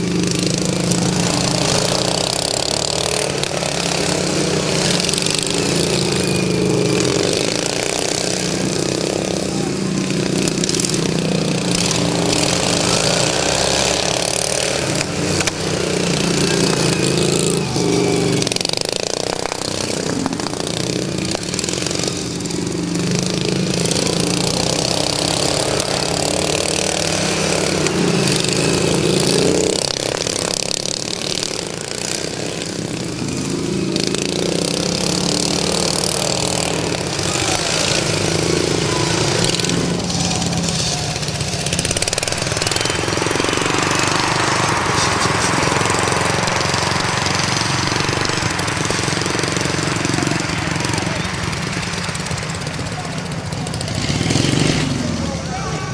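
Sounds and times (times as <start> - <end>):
lawn tractor engines revving: 0.0 - 55.9.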